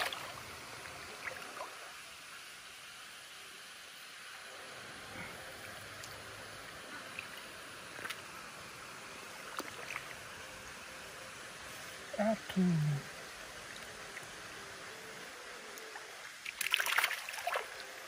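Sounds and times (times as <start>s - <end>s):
shallow flowing water: 0.0s - 18.0s.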